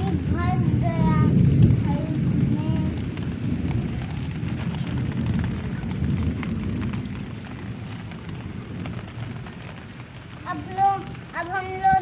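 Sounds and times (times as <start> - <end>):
low rain rumble: 0.0 - 12.0
raindrops pattering: 0.0 - 12.0.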